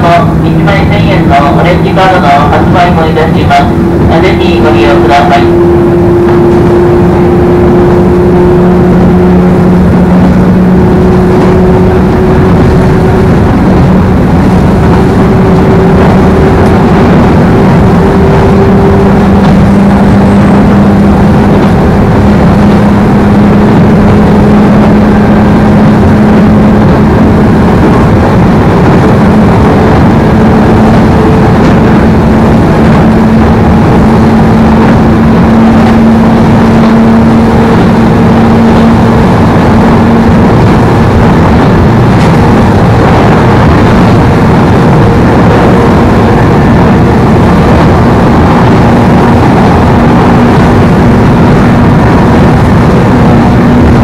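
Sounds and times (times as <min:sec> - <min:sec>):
train running noise: 0:00.0 - 0:54.0
electric motor whine: 0:03.4 - 0:54.0.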